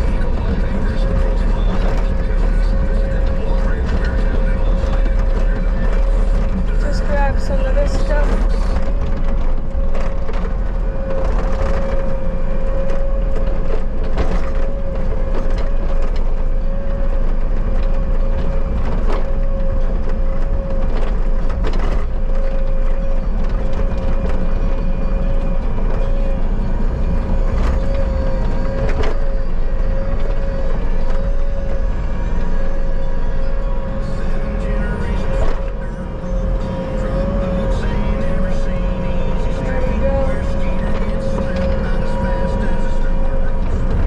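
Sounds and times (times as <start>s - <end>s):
skid steer engine rumble: 0.0s - 44.0s
steady whine: 0.0s - 44.0s.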